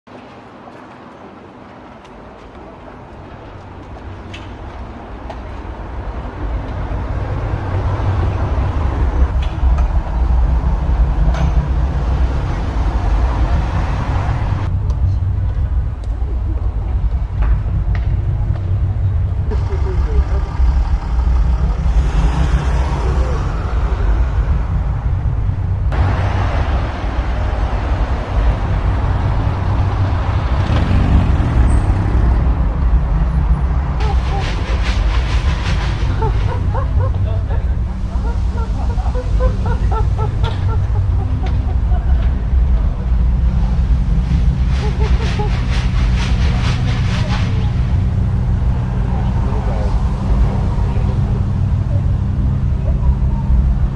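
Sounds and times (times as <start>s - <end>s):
low rumbling noise: 0.2s - 53.9s.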